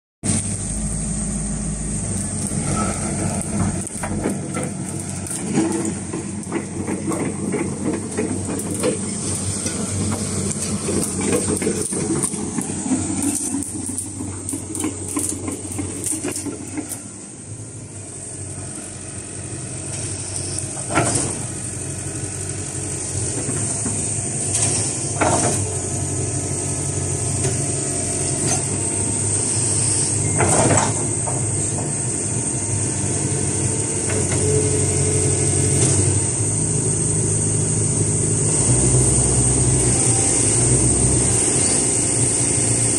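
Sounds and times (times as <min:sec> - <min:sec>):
excavator diesel engine running: 0:00.2 - 0:42.9.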